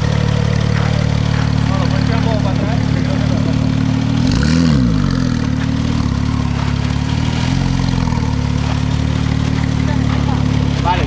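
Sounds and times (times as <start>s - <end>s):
engine rev blip: 0.0s - 10.7s
sports car engine idling: 0.0s - 11.0s.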